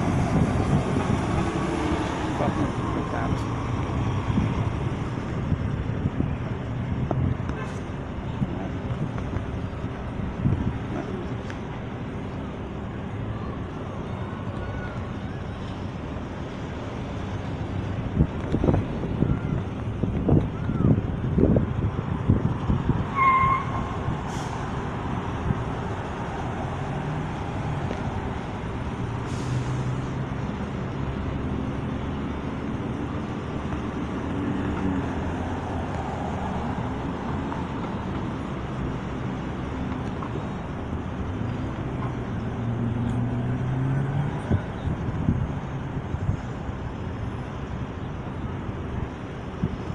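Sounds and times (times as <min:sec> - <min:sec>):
vehicle engines and road noise: 0:00.0 - 0:49.9.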